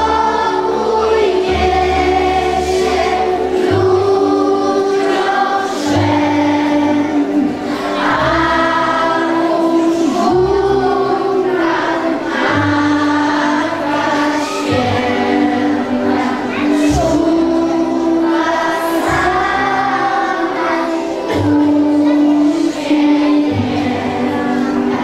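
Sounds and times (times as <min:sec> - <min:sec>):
children's choir singing: 0:00.0 - 0:25.0
instrumental accompaniment: 0:00.0 - 0:25.0.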